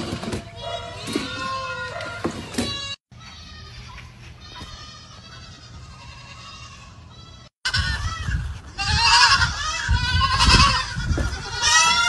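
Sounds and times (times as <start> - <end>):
baby goats bleating: 0.0 - 12.0.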